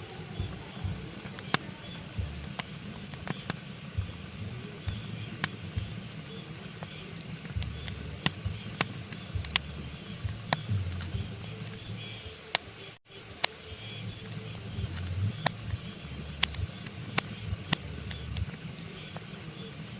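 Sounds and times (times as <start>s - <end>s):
logs crackling in fireplace: 0.0s - 12.7s, 13.4s - 19.9s.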